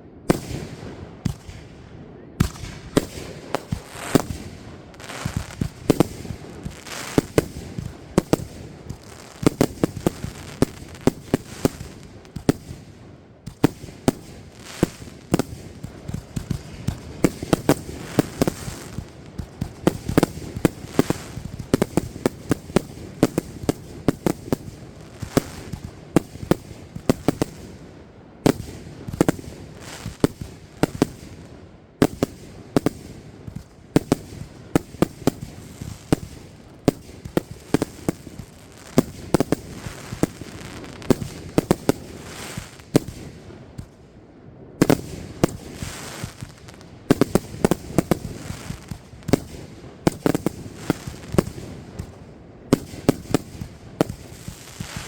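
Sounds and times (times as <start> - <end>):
fireworks banging and popping: 0.3 - 1.8, 2.4 - 44.1, 44.8 - 55.0.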